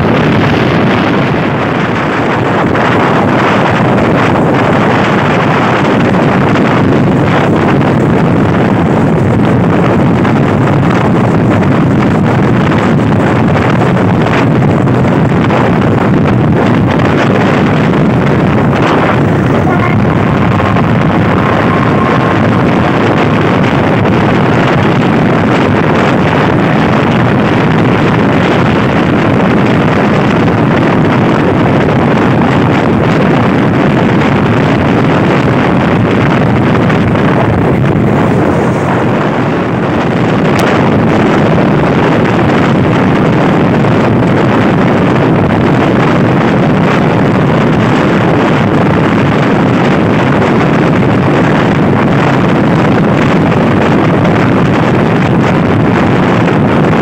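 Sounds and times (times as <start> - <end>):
train carriage running on track: 0.0 - 56.6
wind buffeting microphone: 0.0 - 57.0.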